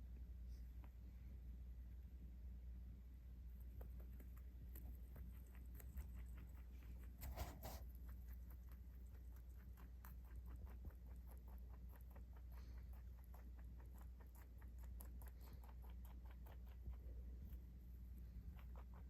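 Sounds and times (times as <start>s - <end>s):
rabbit chewing crunchily: 0.2s - 19.0s.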